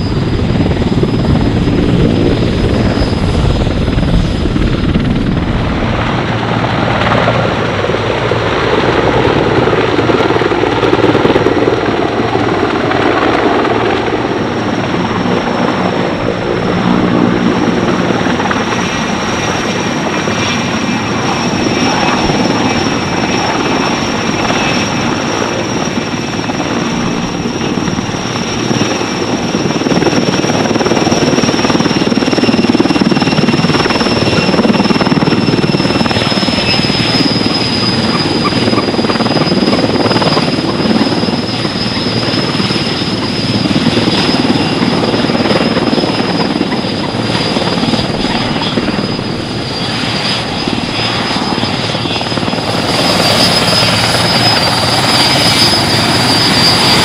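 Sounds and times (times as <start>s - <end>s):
helicopter rotor noise: 0.0s - 57.0s
high turbine engine whine: 0.0s - 57.0s.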